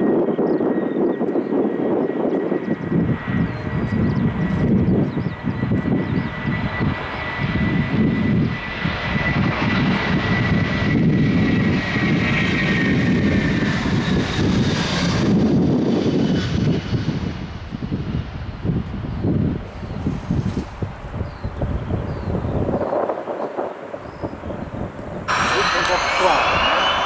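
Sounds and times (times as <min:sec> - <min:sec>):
jet airliner passing: 0:00.0 - 0:27.0.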